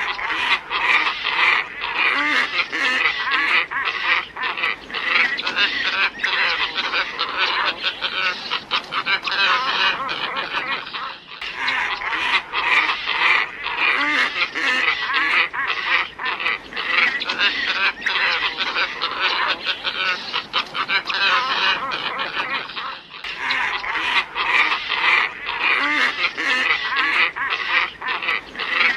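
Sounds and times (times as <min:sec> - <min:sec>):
ibis flock calling: 0:00.0 - 0:28.9.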